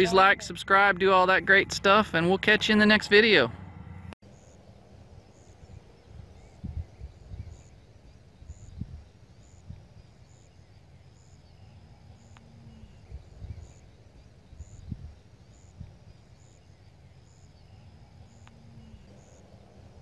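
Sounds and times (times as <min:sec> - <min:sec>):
low uneven rumble: 0:00.0 - 0:20.0.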